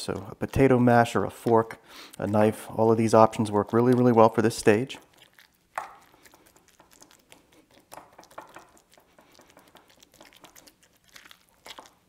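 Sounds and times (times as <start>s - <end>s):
fork mashing guacamole: 0.0s - 12.0s.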